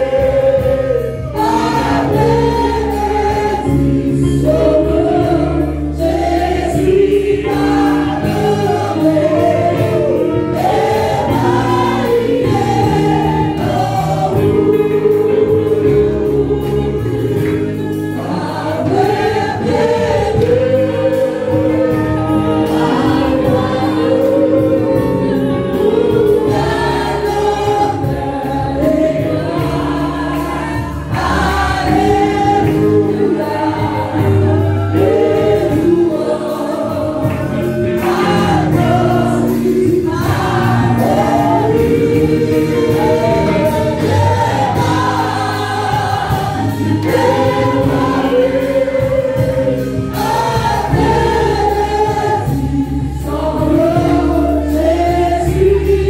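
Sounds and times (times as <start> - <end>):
congregation singing a gospel song: 0.0 - 56.0
instrumental accompaniment: 0.0 - 56.0
woman singing into a microphone: 0.0 - 56.0.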